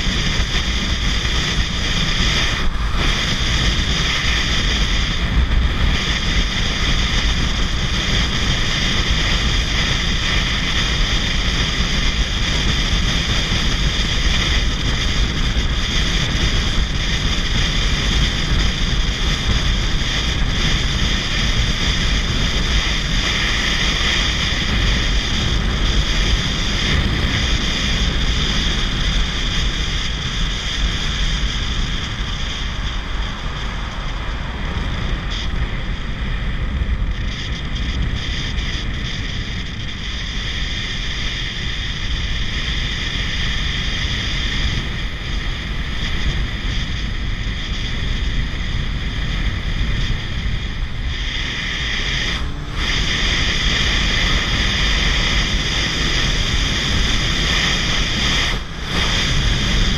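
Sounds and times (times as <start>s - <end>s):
motorcycle engine: 0.0s - 59.9s
road noise: 0.0s - 59.9s
wind rush on microphone: 0.0s - 59.9s.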